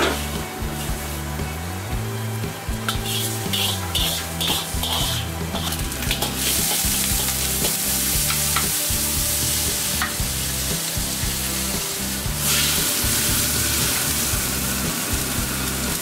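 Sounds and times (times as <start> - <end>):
metal ladle scraping wok: 0.0 - 1.3, 2.8 - 15.3
food sizzling in a wok: 0.0 - 16.0.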